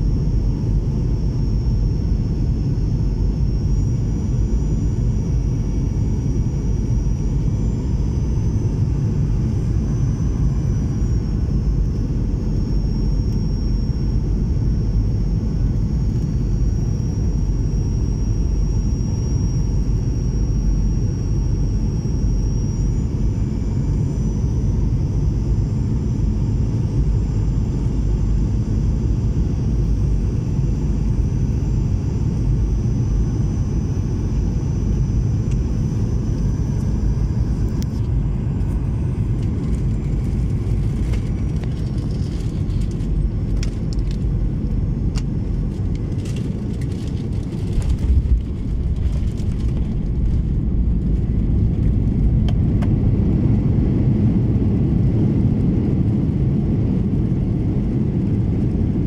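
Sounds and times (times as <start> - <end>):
low rumble of engines and airflow: 0.0 - 59.0.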